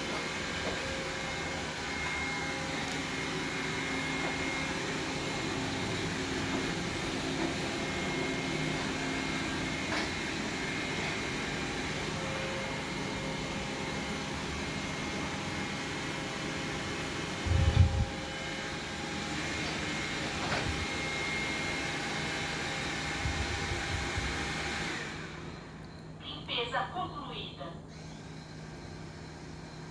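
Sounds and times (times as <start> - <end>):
robot vacuum whirring: 0.0 - 25.7.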